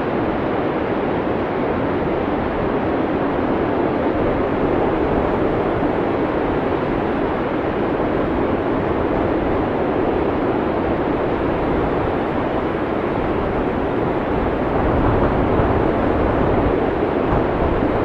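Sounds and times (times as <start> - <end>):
heavy blizzard wind rushing: 0.0 - 18.0.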